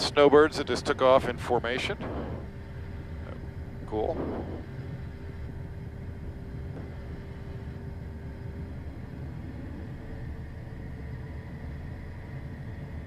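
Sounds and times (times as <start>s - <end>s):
jet engines taxiing: 0.0s - 13.0s.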